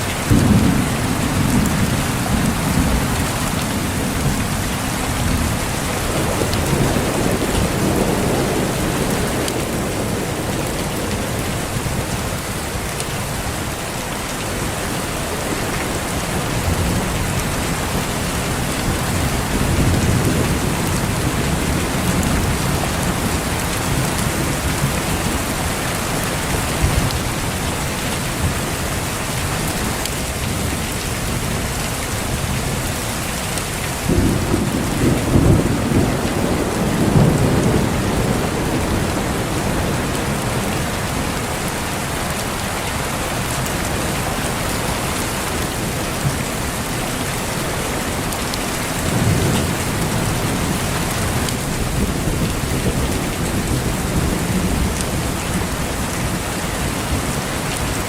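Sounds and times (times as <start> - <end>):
heavy rain: 0.0 - 58.0
thunder rumbling: 0.2 - 13.6, 14.6 - 27.7, 34.0 - 58.0.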